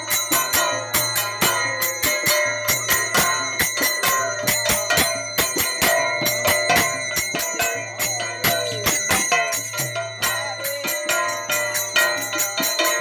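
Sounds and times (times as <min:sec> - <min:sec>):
bells struck rapidly: 0:00.0 - 0:13.0.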